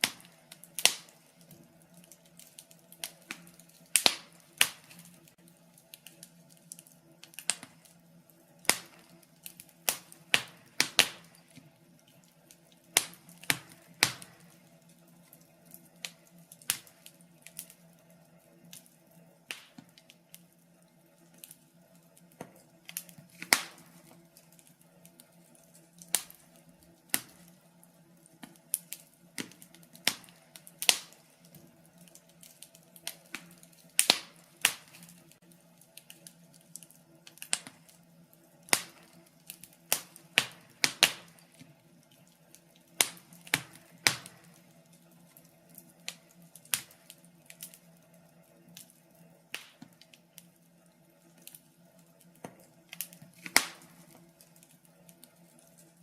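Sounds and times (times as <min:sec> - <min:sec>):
logs crackling in fireplace: 0:00.0 - 0:56.0.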